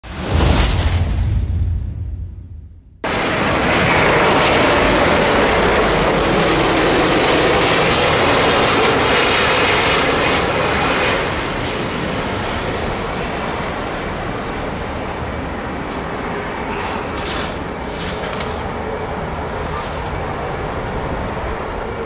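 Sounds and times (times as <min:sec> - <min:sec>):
airliner jet engines roaring: 0:03.0 - 0:22.0.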